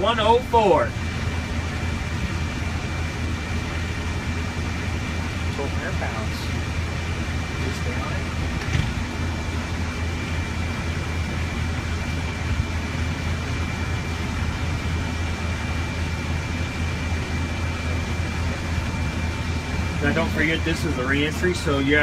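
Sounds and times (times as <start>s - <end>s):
engines and pumping machinery drone: 0.0s - 22.0s
faint high whine: 0.0s - 22.0s.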